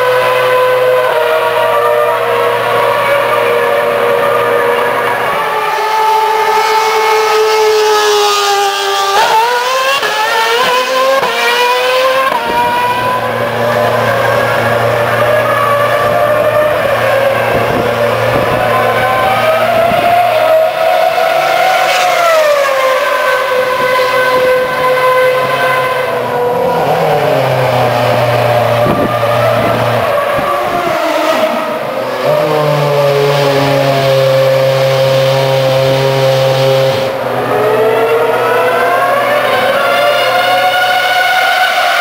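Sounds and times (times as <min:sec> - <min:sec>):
racing car engines at high revs: 0:00.0 - 0:42.0.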